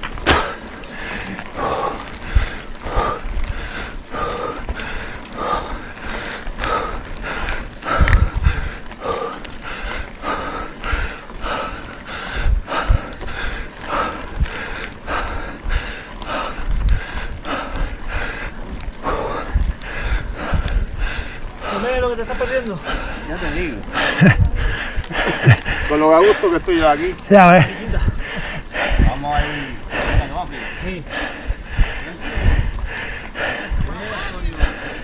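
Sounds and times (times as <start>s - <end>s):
heavy rhythmic breathing: 0.0s - 35.0s
tyres rumbling on gravel: 0.0s - 35.0s
wind on the microphone: 0.0s - 35.0s.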